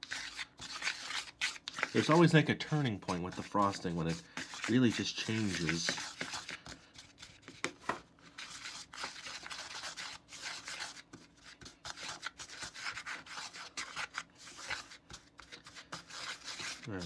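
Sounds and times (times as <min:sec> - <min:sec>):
spatula scraping plastic bowl: 0:00.0 - 0:17.0.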